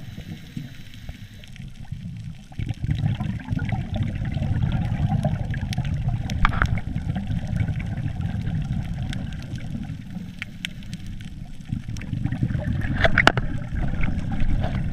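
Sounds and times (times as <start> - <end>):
crackling: 0.0 - 14.9
low underwater rumble: 0.0 - 14.9.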